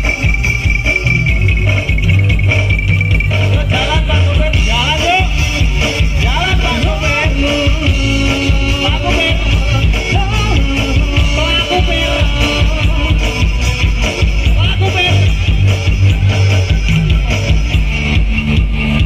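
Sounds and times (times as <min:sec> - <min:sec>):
loud bass-heavy music: 0:00.0 - 0:19.0.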